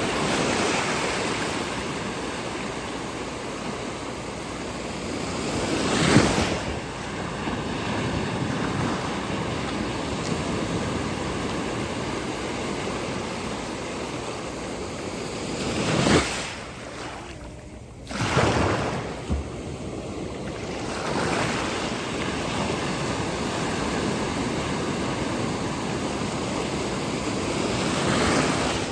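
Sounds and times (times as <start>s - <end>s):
waves breaking and washing: 0.0s - 28.9s.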